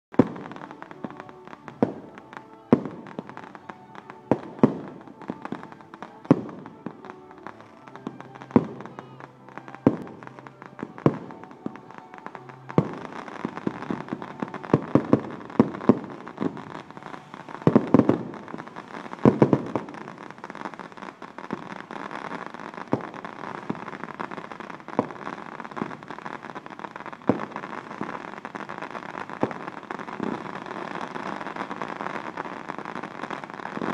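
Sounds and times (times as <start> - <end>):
fireworks crackling: 0.1 - 33.9.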